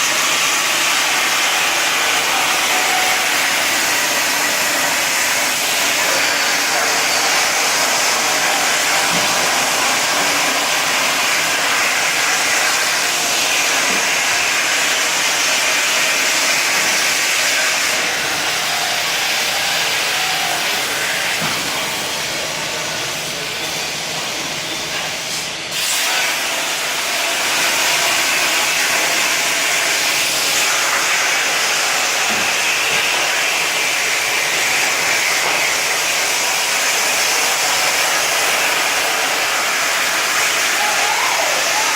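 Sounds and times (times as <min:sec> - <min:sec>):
plasma cutter hissing: 0:00.0 - 0:41.9.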